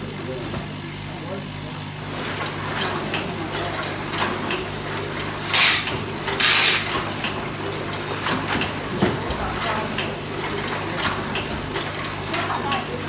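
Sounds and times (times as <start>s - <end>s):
packaging machine humming: 0.3s - 13.0s
machine clicks: 2.2s - 13.0s.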